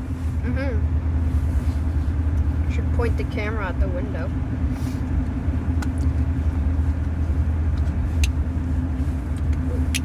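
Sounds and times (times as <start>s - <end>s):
engine and road noise rumble: 0.0s - 10.0s.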